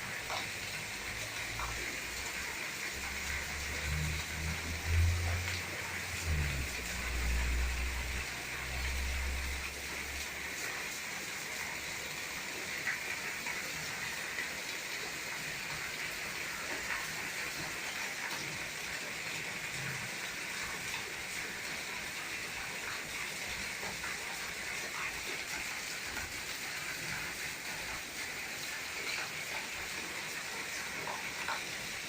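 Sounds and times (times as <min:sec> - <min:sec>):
heavy rain: 0:00.0 - 0:32.0.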